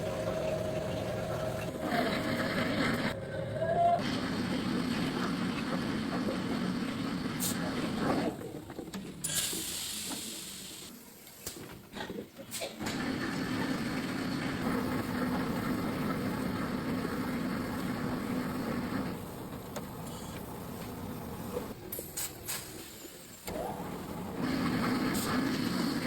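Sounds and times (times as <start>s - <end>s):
factory machinery humming: 0.0s - 10.9s, 12.8s - 26.0s.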